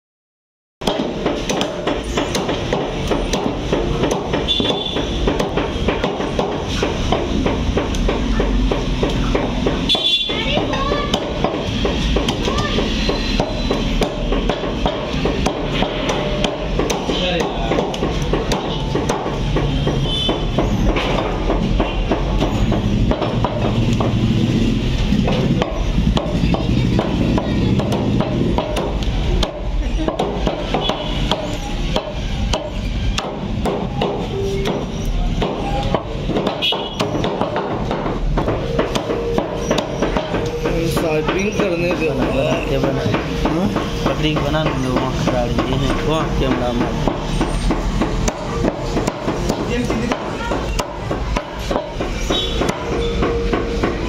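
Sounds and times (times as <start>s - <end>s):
cleaver chopping on wooden block: 0.8s - 54.0s.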